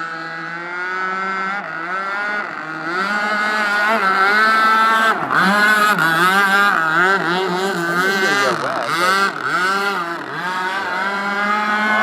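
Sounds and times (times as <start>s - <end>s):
model boat two-stroke engine revving: 0.0s - 12.0s.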